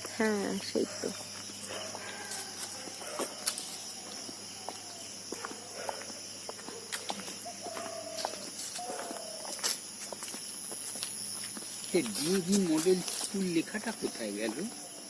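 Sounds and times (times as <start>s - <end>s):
light footsteps: 0.0s - 14.7s
crickets chirping: 0.0s - 15.0s.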